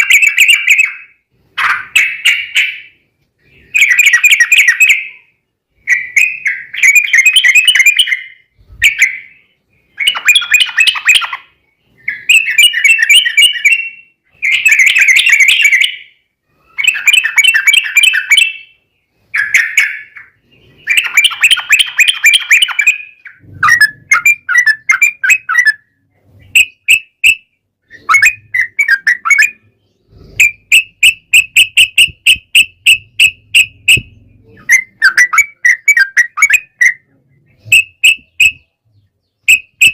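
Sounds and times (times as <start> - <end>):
bird song chattering: 0.0 - 39.9.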